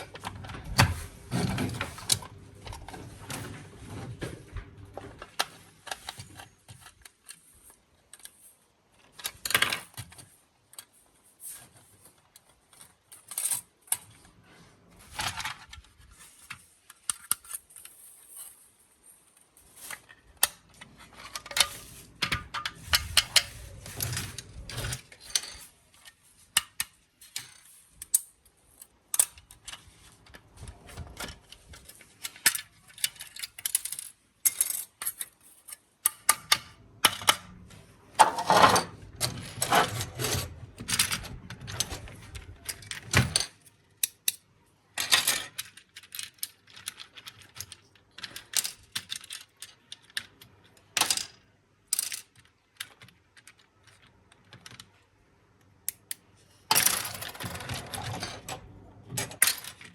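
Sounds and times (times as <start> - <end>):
plastic parts rattling and scraping: 0.0 - 59.9
plastic parts clicking and tapping: 4.9 - 14.3, 15.1 - 18.0, 19.3 - 37.6, 38.2 - 59.9.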